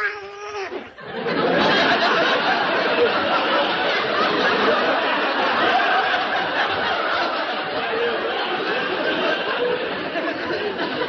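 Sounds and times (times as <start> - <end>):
audience laughing: 0.8 - 11.0.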